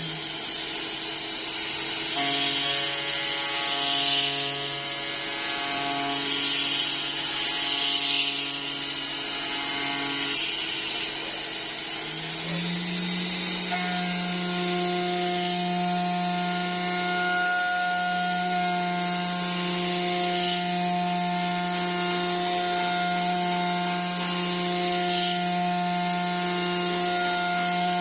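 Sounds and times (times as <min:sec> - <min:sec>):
milling machine whine: 0:00.0 - 0:28.0.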